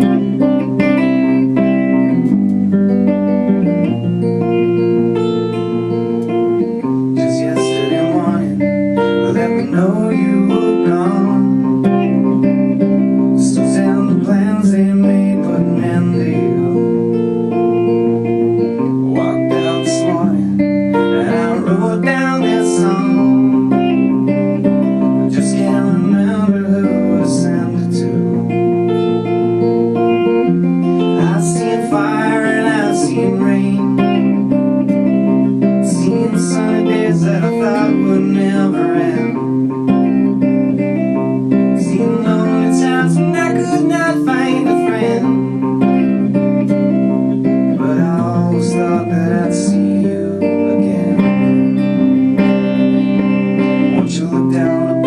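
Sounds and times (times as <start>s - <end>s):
acoustic guitar playing: 0.0s - 55.0s
person singing: 6.8s - 17.7s, 18.6s - 29.6s, 30.2s - 55.0s.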